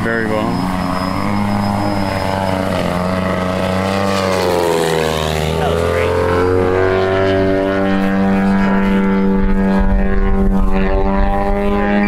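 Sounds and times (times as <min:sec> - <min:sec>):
low rumble: 0:00.0 - 0:12.0
model airplane engine running: 0:00.0 - 0:12.0.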